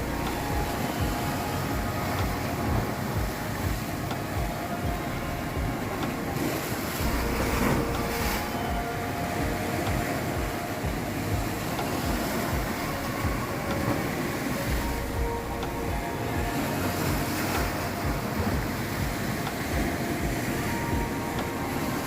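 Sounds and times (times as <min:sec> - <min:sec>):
sea waves breaking over rocks: 0:00.0 - 0:22.0
wind buffeting microphone: 0:00.0 - 0:22.0.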